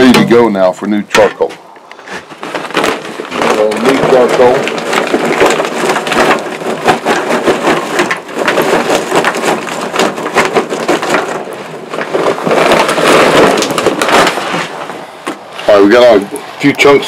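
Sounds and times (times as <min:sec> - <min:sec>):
charcoal clattering into metal firebox: 0:01.1 - 0:16.9.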